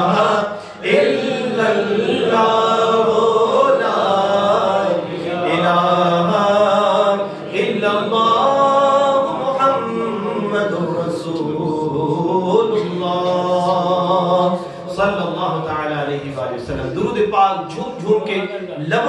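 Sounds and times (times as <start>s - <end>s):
man chanting into microphone: 0.0s - 19.0s.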